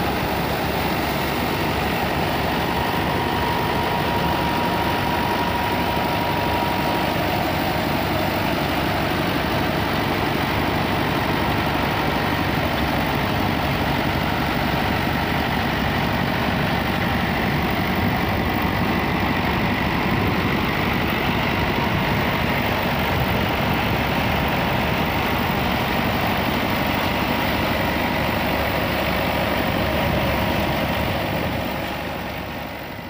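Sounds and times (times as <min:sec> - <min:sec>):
thresher drum whirring: 0:00.0 - 0:32.4
diesel tractor engine running: 0:00.0 - 0:33.0.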